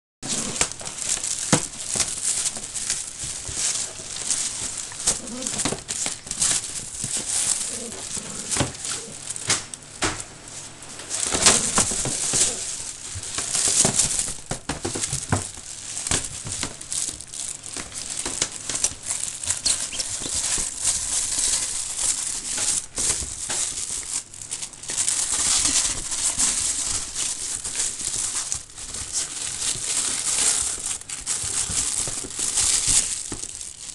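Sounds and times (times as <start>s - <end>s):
fabric tunnel rustling and crinkling: 0.2s - 33.9s.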